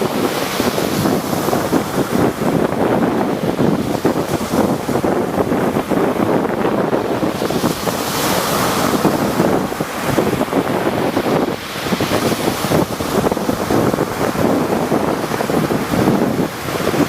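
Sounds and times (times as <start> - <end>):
rough sea waves breaking: 0.0 - 17.0
wind buffeting microphone: 0.0 - 17.0.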